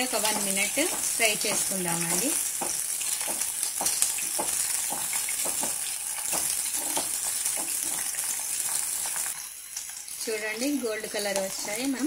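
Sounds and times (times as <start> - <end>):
spatula stirring in pan: 0.0 - 9.4, 11.2 - 12.0
prawns deep-frying in oil: 0.0 - 12.0.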